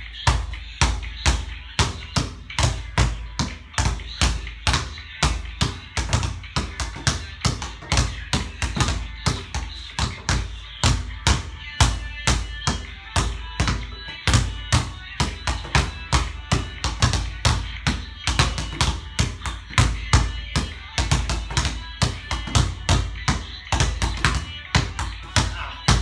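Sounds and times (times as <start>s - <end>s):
basketball bouncing on court: 0.0s - 26.0s
music playing: 0.0s - 26.0s.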